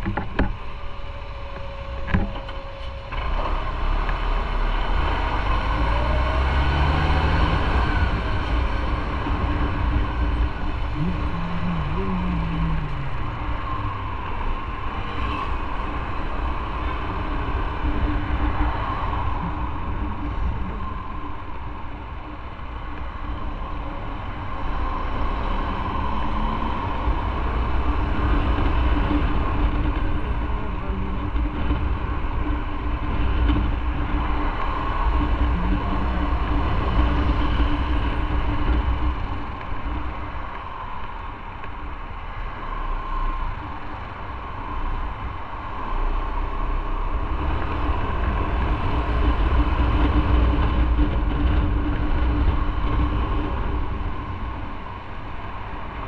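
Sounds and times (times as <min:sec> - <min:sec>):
wind rumble: 0:00.0 - 0:56.0.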